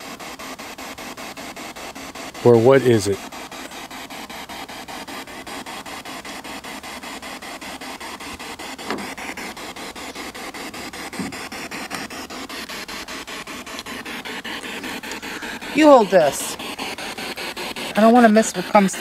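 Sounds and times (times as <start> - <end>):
chopped radio static hiss: 0.0 - 19.0.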